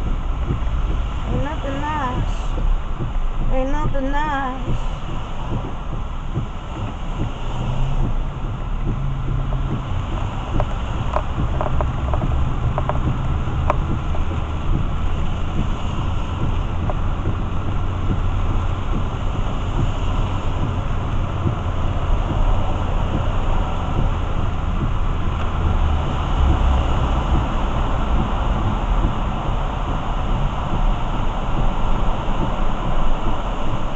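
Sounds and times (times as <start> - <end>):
car tyres and engine rumble: 0.0 - 33.9
rain on car: 0.0 - 33.9.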